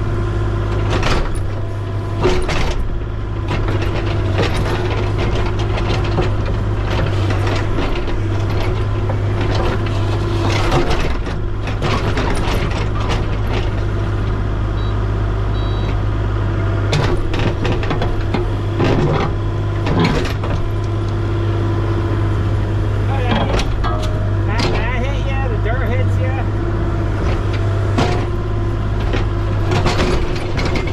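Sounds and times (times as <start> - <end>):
heavy engine humming: 0.0 - 30.9
knocks and clanks: 2.2 - 14.0, 16.9 - 26.6, 27.2 - 30.9.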